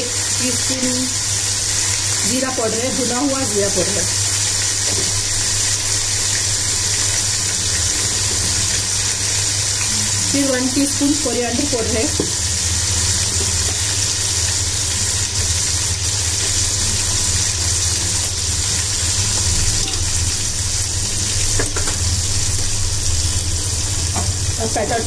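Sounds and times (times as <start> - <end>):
chicken sizzling in oil: 0.0 - 25.0.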